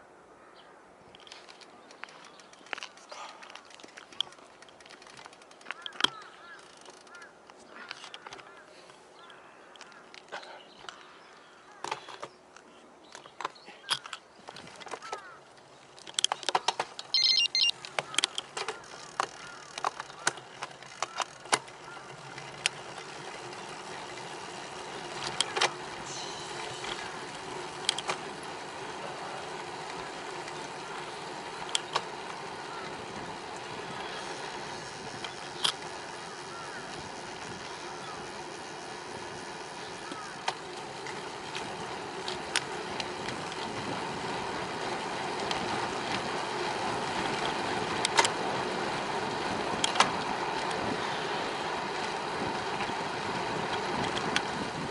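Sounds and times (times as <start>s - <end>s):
wind and tyre noise: 0.0s - 54.9s
bicycle clicking and rattling: 1.1s - 8.6s, 9.2s - 12.4s, 13.0s - 54.9s.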